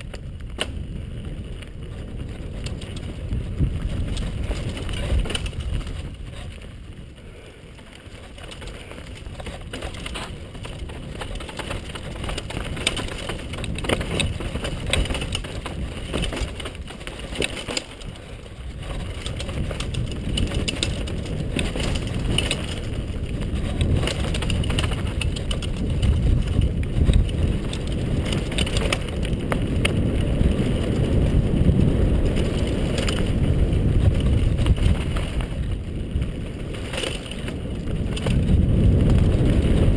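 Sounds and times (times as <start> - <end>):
bike clicking and rattling: 0.0 - 39.9
bike tyres rumbling on dirt: 0.0 - 39.9
wind on microphone: 0.0 - 39.9.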